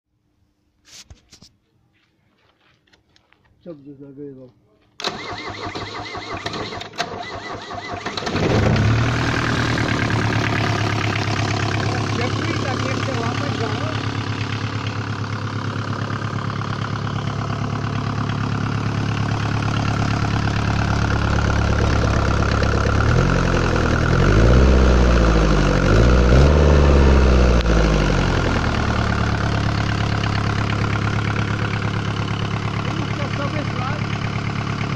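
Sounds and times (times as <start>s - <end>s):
diesel engine idling and revving: 5.1s - 34.9s.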